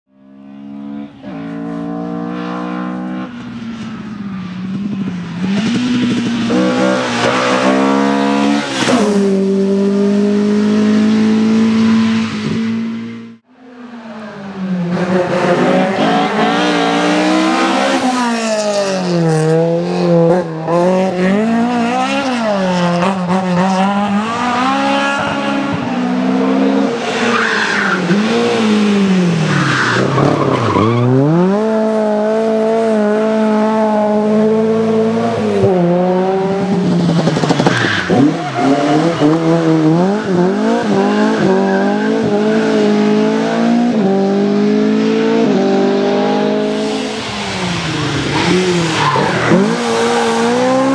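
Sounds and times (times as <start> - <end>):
rally car engines revving: 0.3 - 50.9.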